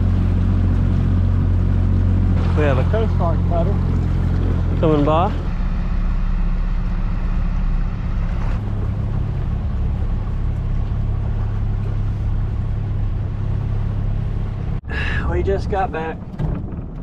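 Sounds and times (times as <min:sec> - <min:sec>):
outboard motor droning: 0:00.0 - 0:14.8.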